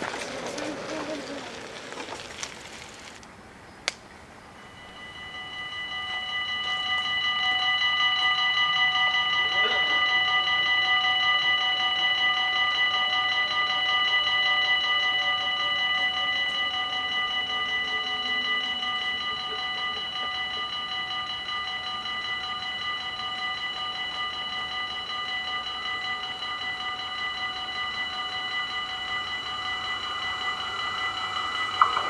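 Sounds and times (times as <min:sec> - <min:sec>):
level crossing warning bells: 0:00.0 - 0:03.0, 0:04.4 - 0:32.0
approaching train: 0:00.0 - 0:32.0.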